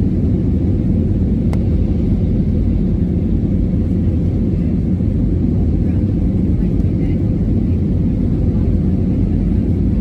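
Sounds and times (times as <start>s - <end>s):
airliner engines rumbling: 0.0s - 10.0s.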